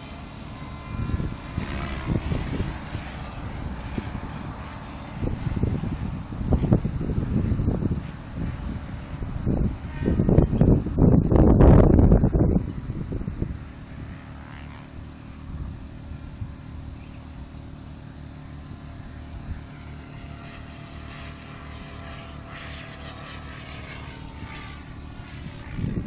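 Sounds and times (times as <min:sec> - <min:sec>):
model helicopter rotor drone: 0:00.0 - 0:26.0.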